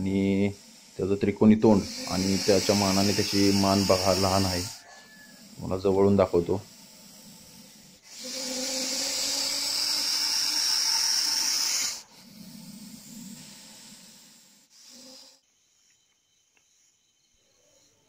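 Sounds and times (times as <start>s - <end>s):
snake hissing: 0.0s - 15.7s.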